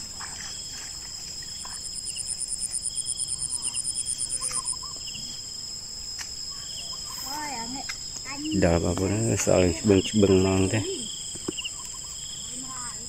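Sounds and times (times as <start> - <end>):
insects trilling: 0.0 - 13.0
pulsing insect chirp: 0.0 - 13.0.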